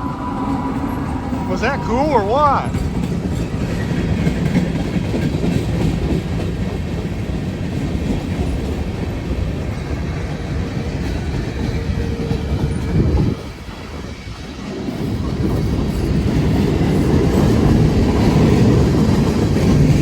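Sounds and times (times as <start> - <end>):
freight train cars rumbling past: 0.0 - 20.0.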